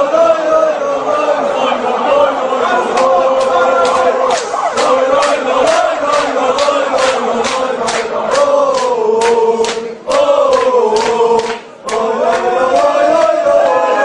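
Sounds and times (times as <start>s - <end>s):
crowd chanting in unison: 0.0s - 14.0s.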